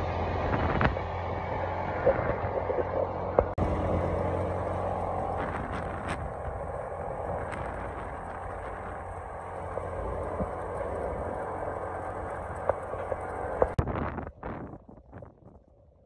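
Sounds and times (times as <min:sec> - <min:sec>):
utility vehicle engine running: 0:00.0 - 0:13.8.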